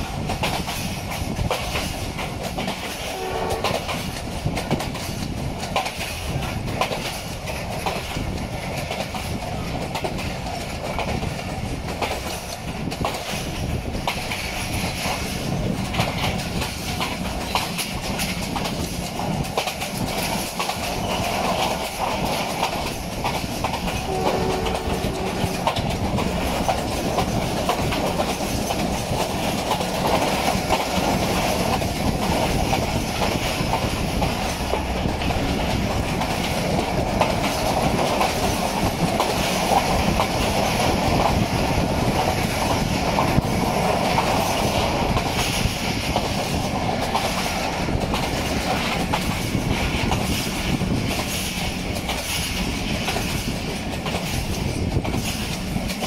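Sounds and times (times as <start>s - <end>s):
train coach rumble and rattle: 0.0s - 56.0s
wheels clacking over rail joints: 0.0s - 56.0s.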